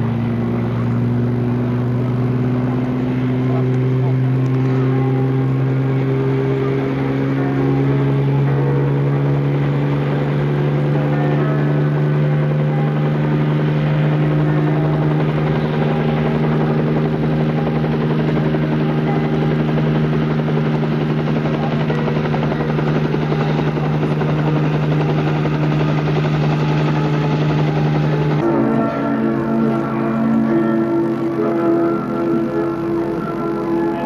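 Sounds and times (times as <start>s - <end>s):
aircraft engine droning: 0.0s - 34.0s.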